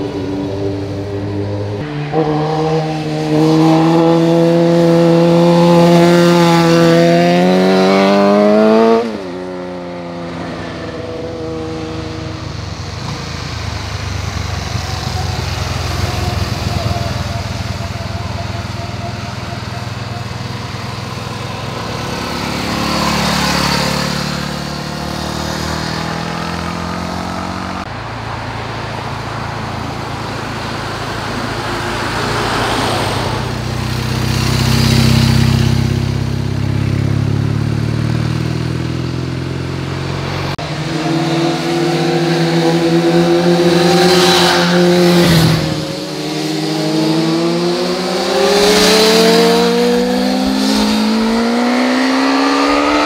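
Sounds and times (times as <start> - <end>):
high-revving motorcycle engine: 0.0 - 27.9, 29.9 - 53.0
deep motorcycle engine drone: 0.0 - 28.0, 33.0 - 53.0
motorcycles accelerating: 0.0 - 53.0.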